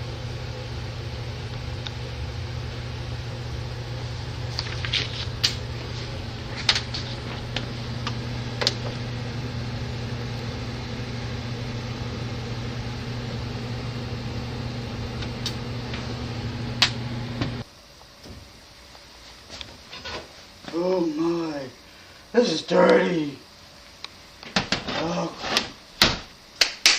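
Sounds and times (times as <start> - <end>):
low machine hum: 0.0 - 25.4.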